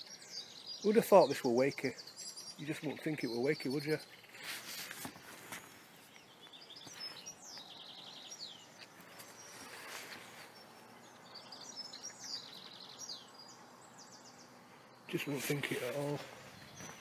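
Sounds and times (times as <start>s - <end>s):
faint outdoor hiss: 0.0s - 17.0s
songbirds trilling: 0.0s - 17.0s.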